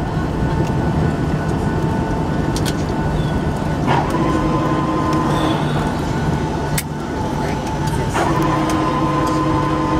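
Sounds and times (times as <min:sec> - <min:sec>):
aircraft cabin rumble: 0:00.0 - 0:09.9
faint steady whine: 0:00.0 - 0:09.9.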